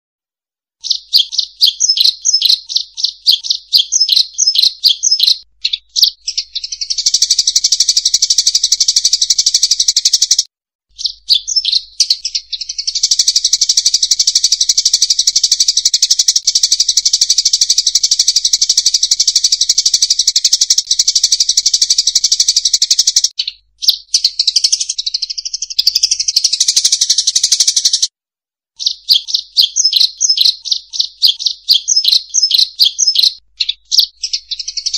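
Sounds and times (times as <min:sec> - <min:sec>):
munias chirping and chattering: 0:00.8 - 0:28.1, 0:28.8 - 0:34.9.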